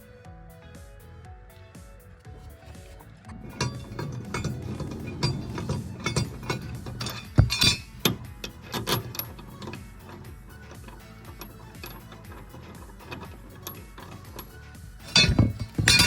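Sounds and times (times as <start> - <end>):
faint background music: 0.0 - 16.0
metal clinks and knocks: 2.6 - 16.0.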